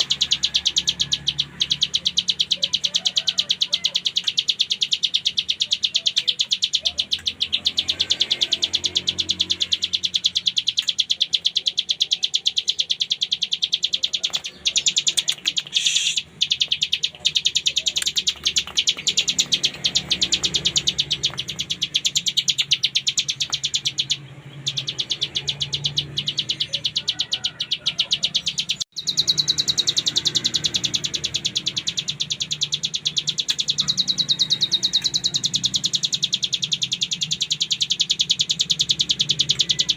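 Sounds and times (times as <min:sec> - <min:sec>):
bird singing buzzy trill: 0:00.0 - 0:39.9.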